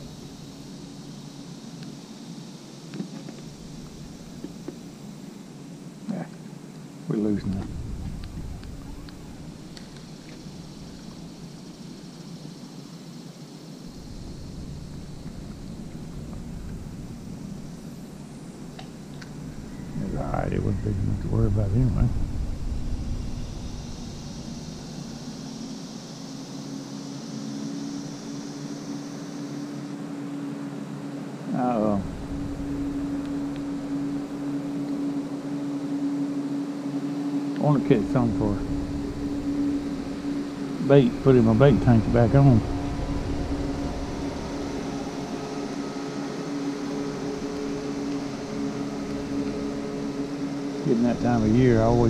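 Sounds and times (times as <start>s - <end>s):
electric motor humming: 0.0s - 6.1s, 7.2s - 52.0s
high even hiss: 0.0s - 52.0s.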